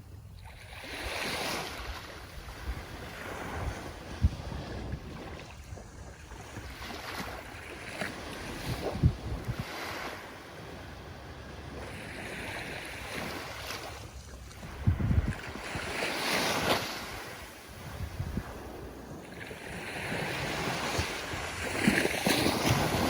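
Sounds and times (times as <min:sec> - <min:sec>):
wind buffeting microphone: 0:00.0 - 0:23.0
ocean waves breaking: 0:00.5 - 0:23.0.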